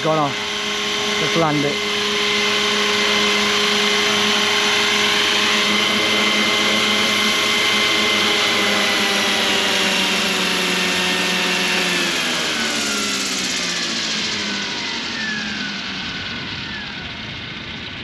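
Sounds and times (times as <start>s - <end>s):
model helicopter motor whine: 0.0s - 18.0s.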